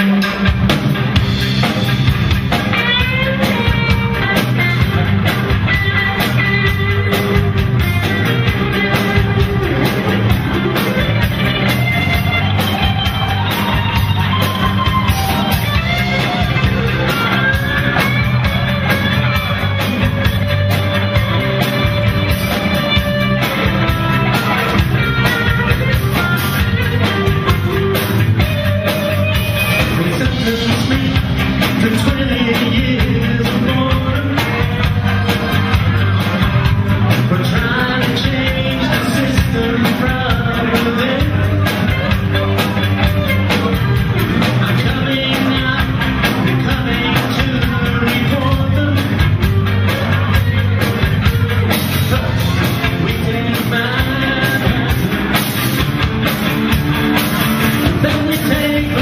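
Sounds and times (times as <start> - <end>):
electric guitar lead bending: 0.0 - 59.0
rock band playing: 0.0 - 59.0.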